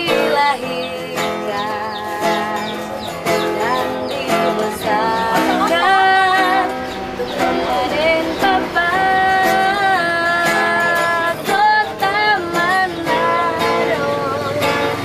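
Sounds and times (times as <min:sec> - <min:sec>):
acoustic guitar strumming: 0:00.0 - 0:15.0
woman singing: 0:00.0 - 0:15.0.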